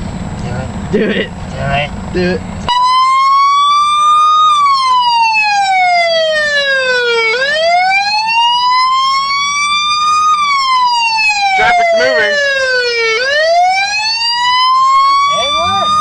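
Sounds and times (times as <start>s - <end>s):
electronic siren wailing: 2.7s - 16.0s.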